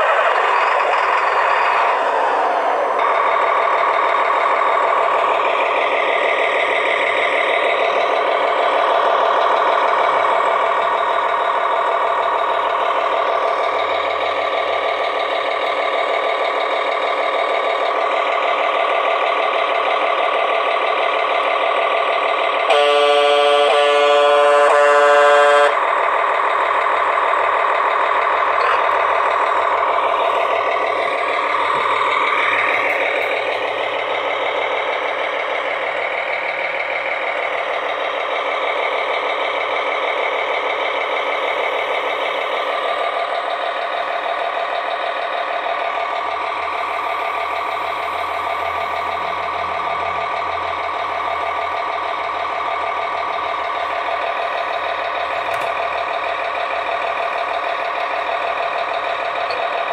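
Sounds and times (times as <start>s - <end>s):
toy truck engine drone: 0.0s - 59.9s.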